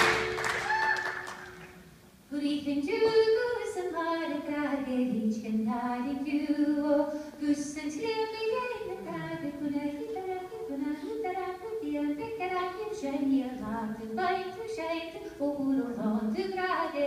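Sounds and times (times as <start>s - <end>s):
person singing unaccompanied: 2.3s - 17.0s.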